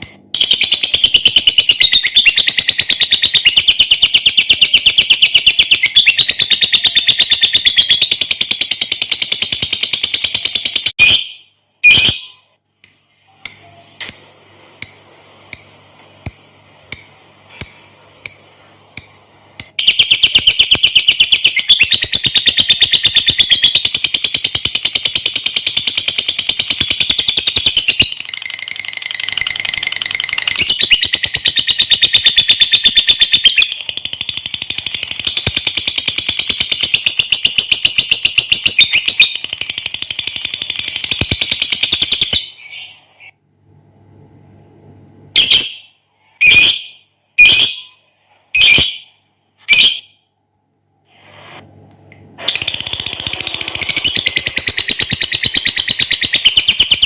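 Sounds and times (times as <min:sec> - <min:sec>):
lovebird chattering trill: 0:00.0 - 0:43.0, 0:52.5 - 0:57.0.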